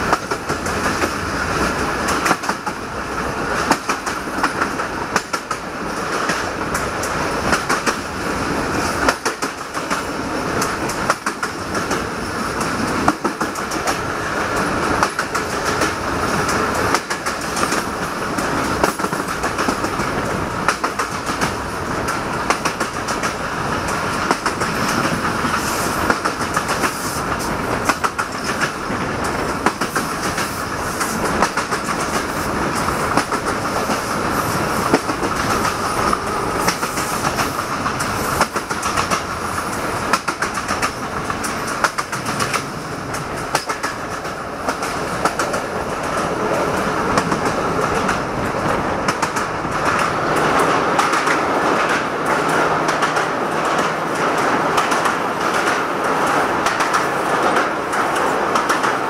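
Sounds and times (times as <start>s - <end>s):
train rolling rumble: 0.0s - 59.0s
wheels clicking over rail joints: 0.0s - 59.0s.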